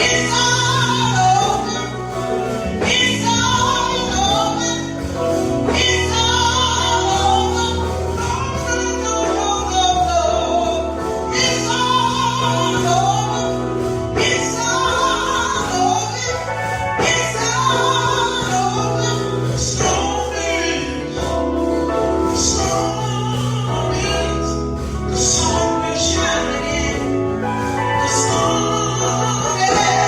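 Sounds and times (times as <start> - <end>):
sustained instrumental accompaniment: 0.0 - 30.0
woman singing gospel song: 0.0 - 30.0.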